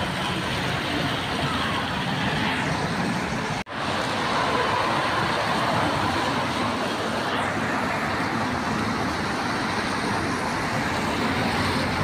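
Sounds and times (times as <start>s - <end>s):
tyres hissing on wet road: 0.0s - 12.0s.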